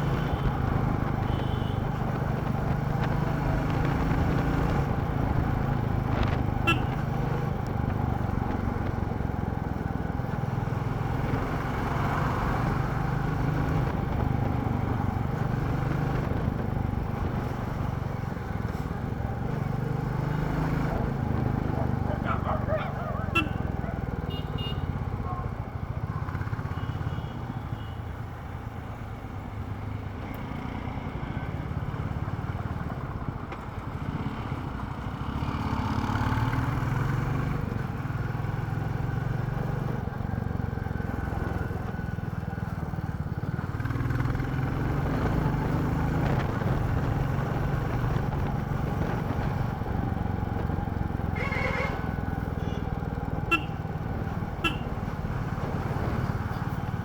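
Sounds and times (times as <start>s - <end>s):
motorcycle engine running: 0.0s - 29.6s, 31.4s - 57.0s.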